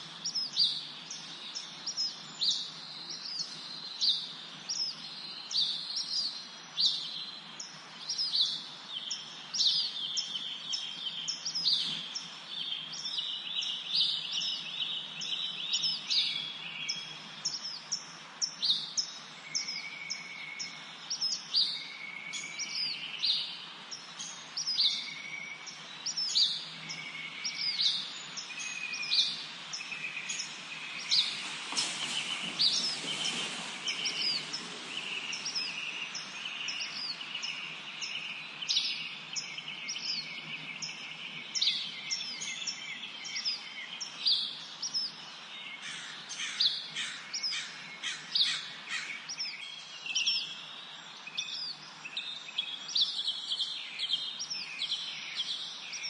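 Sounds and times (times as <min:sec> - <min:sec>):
lower bird trilling song: 0:00.0 - 0:56.0.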